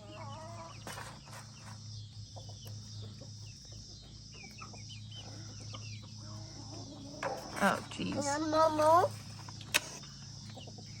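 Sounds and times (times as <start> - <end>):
chickens clucking and chirping: 0.0 - 11.0.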